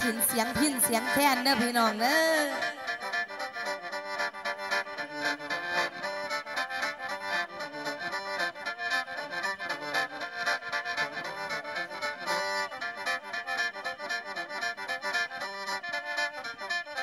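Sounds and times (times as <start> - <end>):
bamboo mouth organ melody: 0.0 - 17.0.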